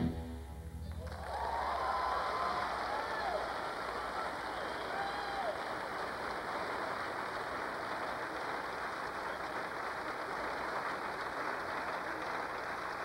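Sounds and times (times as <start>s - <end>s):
audience applauding: 0.9s - 13.0s.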